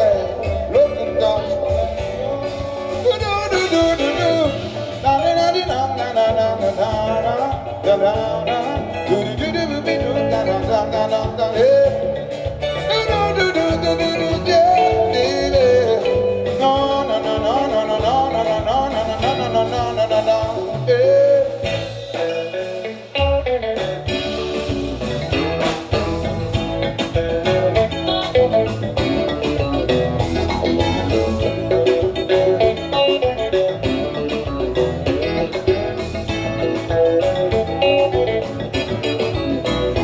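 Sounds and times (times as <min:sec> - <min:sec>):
bass: 0:00.0 - 0:40.0
guitar: 0:00.0 - 0:40.0
steady drum beat: 0:00.0 - 0:40.0.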